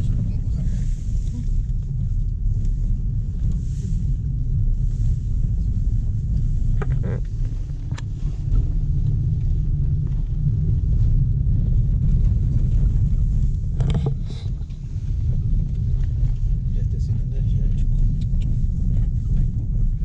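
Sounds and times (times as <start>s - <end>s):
tyres and engine on gravel: 0.0s - 20.0s.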